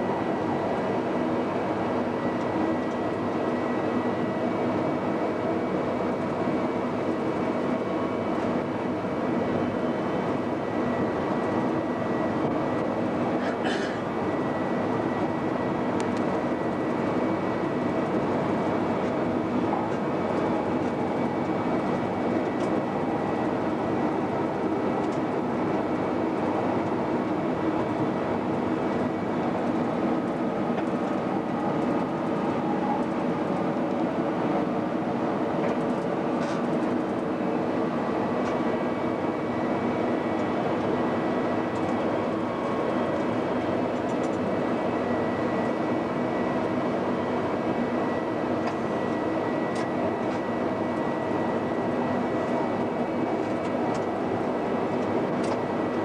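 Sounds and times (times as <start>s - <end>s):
constant hum of held tones: 0.0s - 56.0s
train running rumble: 0.0s - 56.0s.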